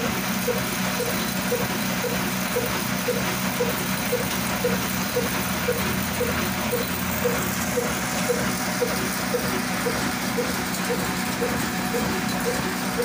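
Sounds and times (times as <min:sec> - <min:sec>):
diesel engine running: 0:00.0 - 0:13.0
engine firing knocks: 0:00.0 - 0:13.0
steady low hum: 0:00.0 - 0:13.0.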